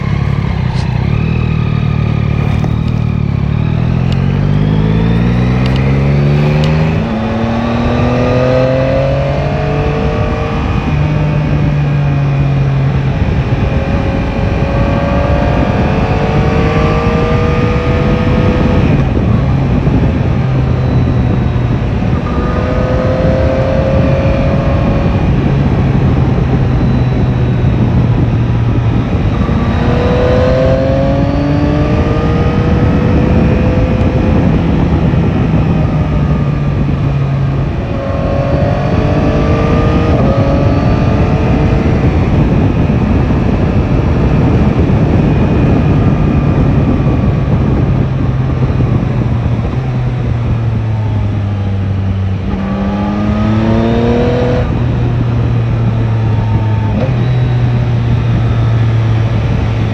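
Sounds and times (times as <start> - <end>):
motorcycle engine accelerating: 0.0 - 59.9
wind noise: 0.0 - 59.9.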